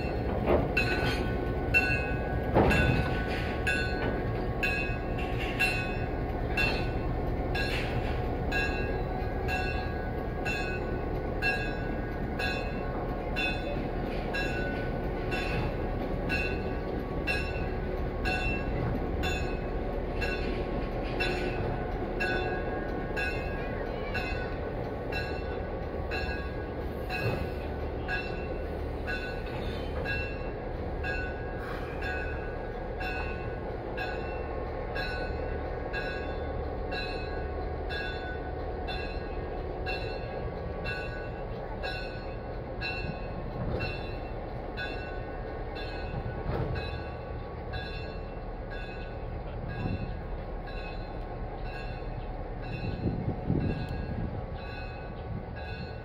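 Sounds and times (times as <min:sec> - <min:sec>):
locomotive and machinery hum: 0:00.0 - 0:56.0.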